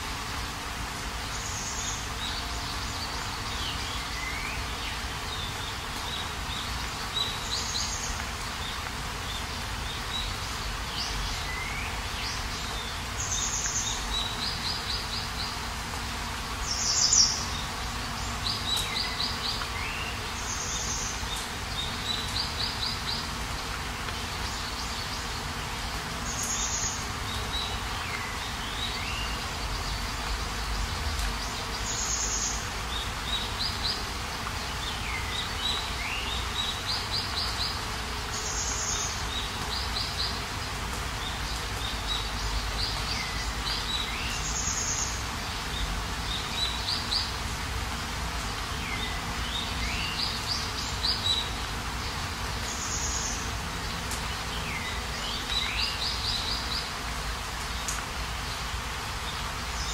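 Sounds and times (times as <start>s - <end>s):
rain hissing: 0.0s - 59.9s
birds chirping: 0.2s - 59.9s.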